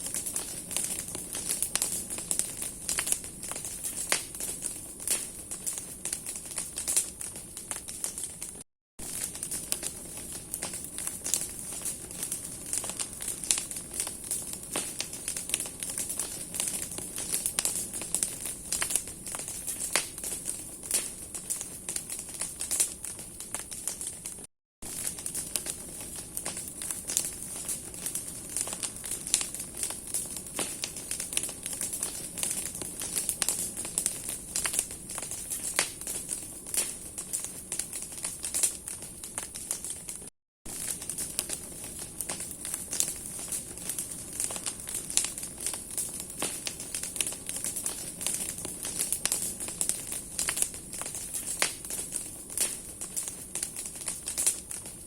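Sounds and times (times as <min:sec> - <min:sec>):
bonfire crackling and popping: 0:00.0 - 0:55.0
steady fire hiss: 0:00.0 - 0:55.0.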